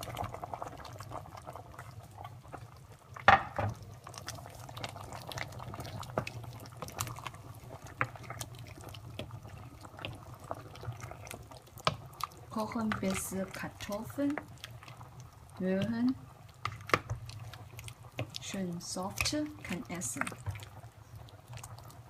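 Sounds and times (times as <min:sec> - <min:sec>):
soup bubbling in a pot: 0:00.0 - 0:22.0.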